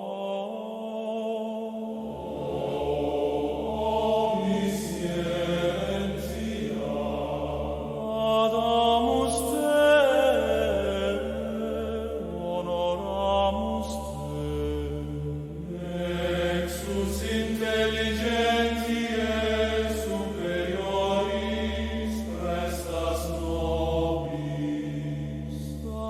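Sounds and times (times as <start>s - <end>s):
chant-like music: 0.0s - 26.0s
low drone: 1.8s - 26.0s.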